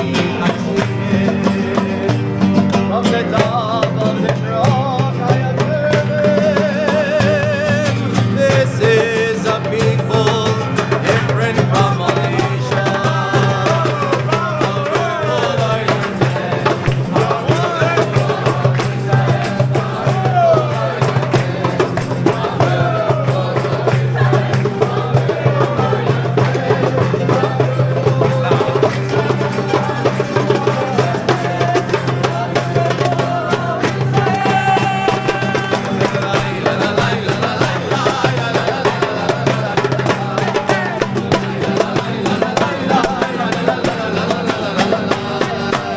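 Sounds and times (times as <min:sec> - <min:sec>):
music with singing and percussion: 0:00.0 - 0:45.9.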